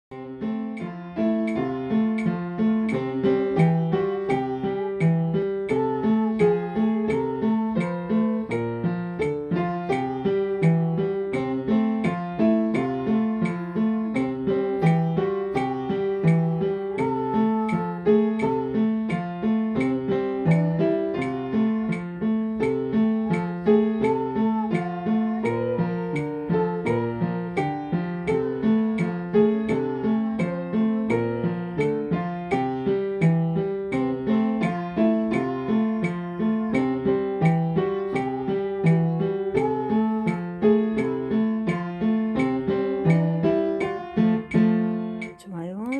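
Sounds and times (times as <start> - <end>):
upright piano jazz piece: 0.1 - 45.5
metronome clicks: 0.1 - 45.9.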